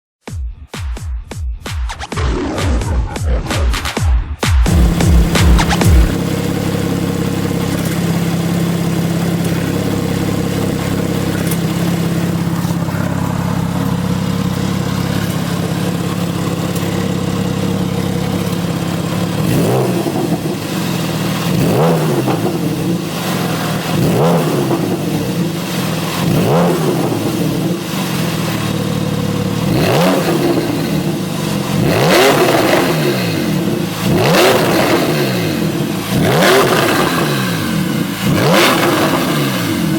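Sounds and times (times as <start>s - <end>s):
engine revving in throttle blips: 2.1s - 39.9s
car engine idling: 2.4s - 39.9s.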